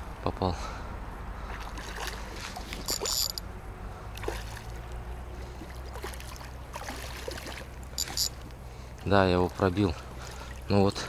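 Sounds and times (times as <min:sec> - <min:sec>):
water sloshing and swirling: 0:01.3 - 0:11.0.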